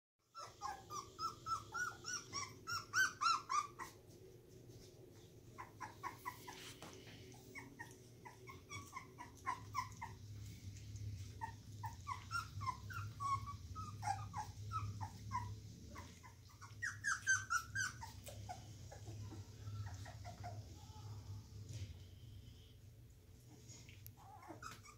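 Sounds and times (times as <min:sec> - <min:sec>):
puppies whimpering and squeaking: 0:00.2 - 0:22.7, 0:23.3 - 0:24.9.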